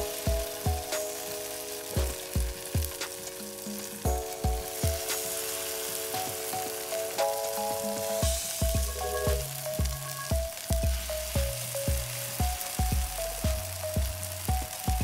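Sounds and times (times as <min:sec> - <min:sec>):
background music with kick drum: 0:00.0 - 0:15.0
batter sizzling in hot oil: 0:00.0 - 0:15.0.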